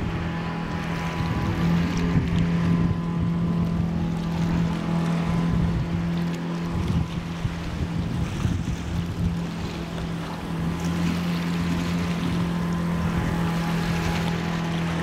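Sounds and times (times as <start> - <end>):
boat engine running: 0.0 - 15.0
churned water wash: 0.0 - 15.0
wind on microphone: 0.0 - 15.0.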